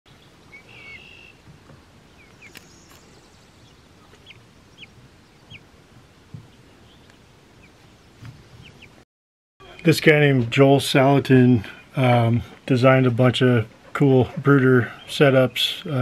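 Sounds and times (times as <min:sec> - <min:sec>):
chicks peeping faintly: 0:00.1 - 0:09.0, 0:09.6 - 0:16.0.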